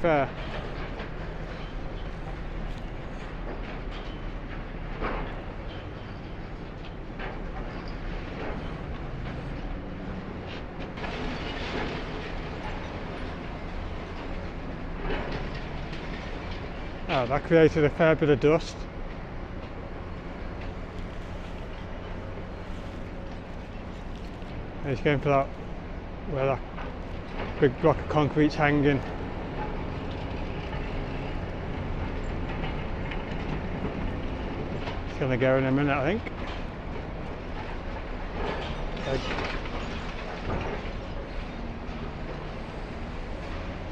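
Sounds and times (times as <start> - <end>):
demolition excavator running: 0.0 - 43.9.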